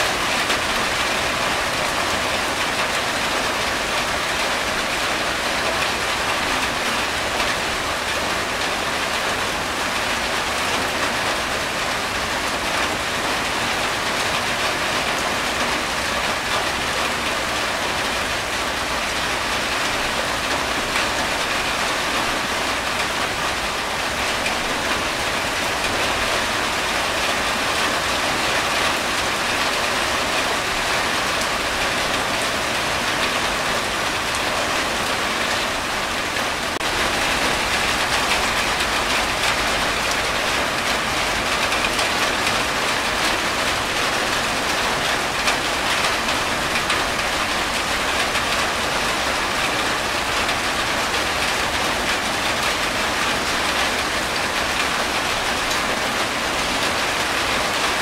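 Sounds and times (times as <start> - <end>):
rain on a tin roof: 0.0 - 58.0
water streaming off roof: 0.0 - 58.0.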